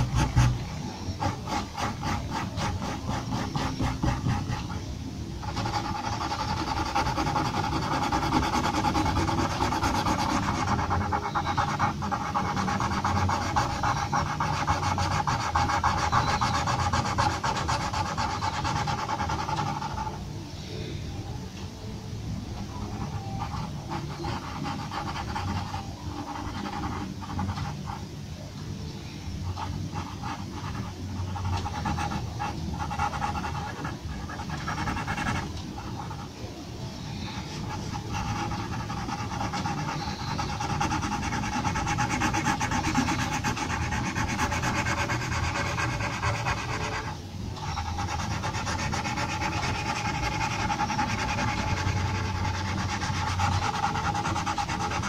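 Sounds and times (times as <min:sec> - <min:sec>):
pencil scratching on paper: 0:00.0 - 0:20.2, 0:22.7 - 0:28.1, 0:29.4 - 0:36.3, 0:37.2 - 0:55.0.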